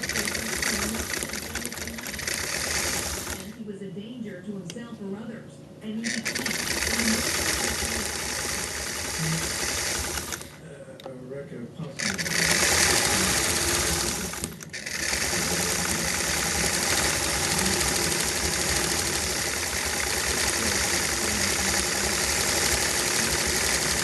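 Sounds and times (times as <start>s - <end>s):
sewing machine stitching: 0.0s - 3.6s, 6.0s - 10.6s, 12.0s - 24.0s.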